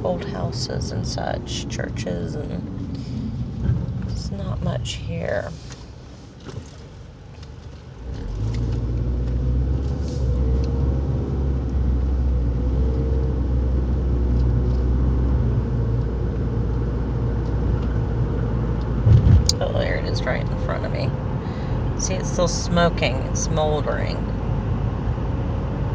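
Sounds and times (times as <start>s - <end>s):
engine and road noise rumble: 0.0s - 25.9s.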